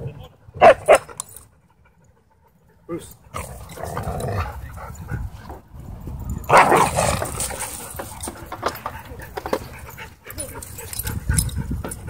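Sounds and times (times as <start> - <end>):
dogs barking and vocalizing: 0.0 - 5.7, 6.4 - 12.0.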